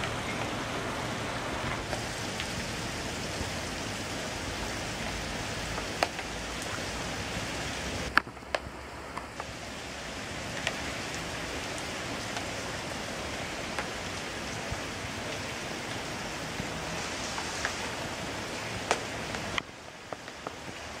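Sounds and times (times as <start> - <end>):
rain on pavement and foliage: 0.0 - 21.0
raindrops tapping: 0.0 - 21.0.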